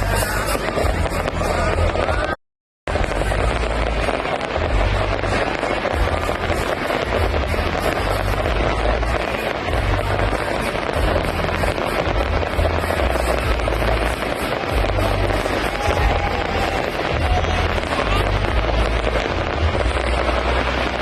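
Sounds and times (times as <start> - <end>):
fireworks booming: 0.0 - 21.0
steady roar of fireworks: 0.0 - 21.0.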